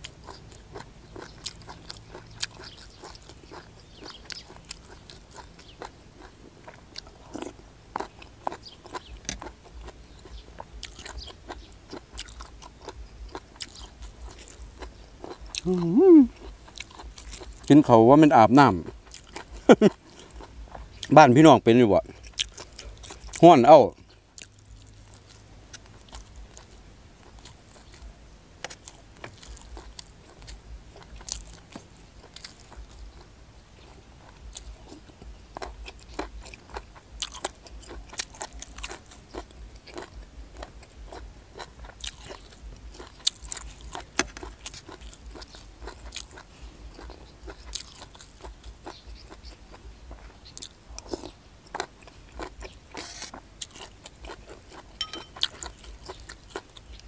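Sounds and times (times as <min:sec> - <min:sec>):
man chewing and crunching: 0:00.0 - 0:57.0.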